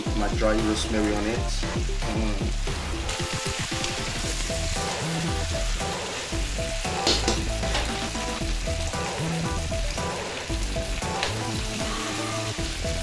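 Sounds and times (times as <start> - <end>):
meat and vegetables sizzling: 0.0 - 13.0.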